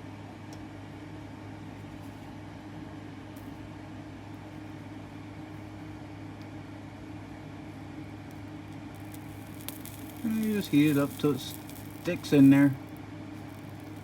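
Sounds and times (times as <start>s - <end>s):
mechanical hum with hiss: 0.0s - 14.0s.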